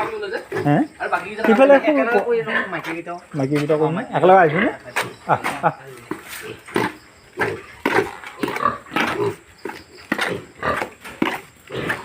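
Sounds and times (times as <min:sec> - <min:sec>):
pigs grunting: 0:00.0 - 0:03.1, 0:04.0 - 0:12.0.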